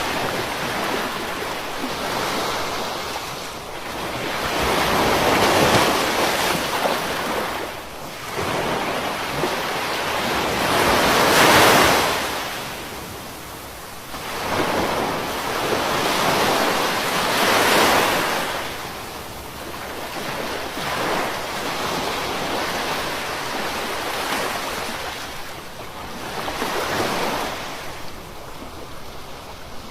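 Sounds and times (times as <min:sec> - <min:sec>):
ocean waves breaking: 0:00.0 - 0:29.9.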